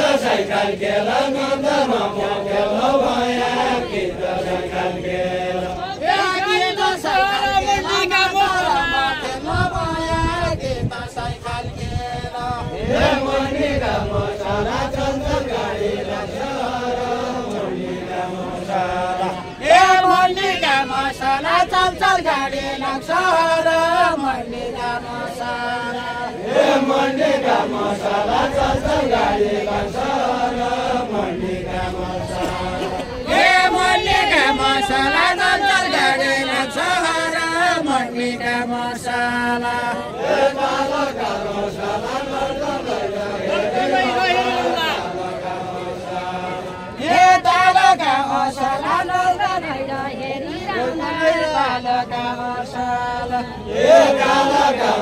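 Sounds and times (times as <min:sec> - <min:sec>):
group chanting folk song: 0:00.0 - 0:55.0.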